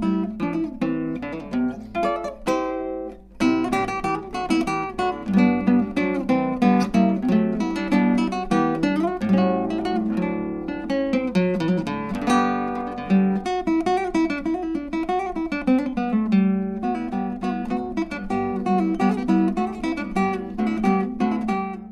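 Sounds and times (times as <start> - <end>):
acoustic guitar plucked and strummed: 0.0 - 21.9.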